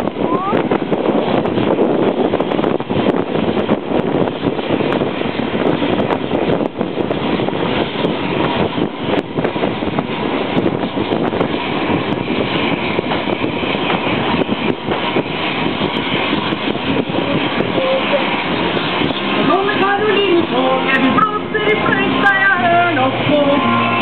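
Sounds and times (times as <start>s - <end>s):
train wheels rattling rumble: 0.0s - 24.0s.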